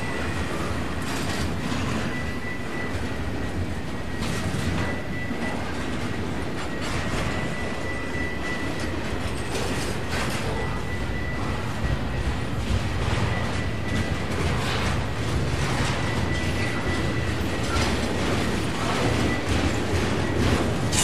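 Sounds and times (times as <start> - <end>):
clacks over rail joints: 0.0 - 21.0
high whine of wheels on rails: 0.0 - 21.0
train wheels rumbling on rail: 0.0 - 21.0.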